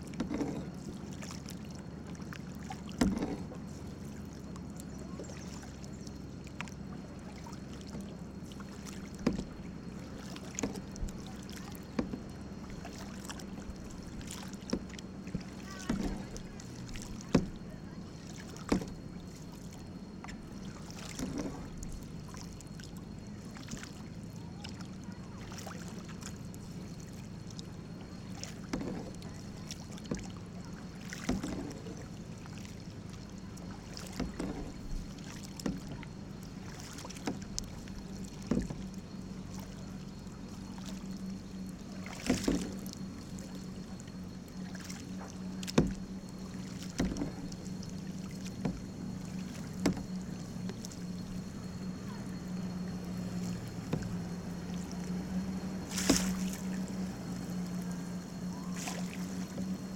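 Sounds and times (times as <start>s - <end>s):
paddle strokes and splashes: 0.0s - 59.9s
steady low hum: 0.0s - 59.9s.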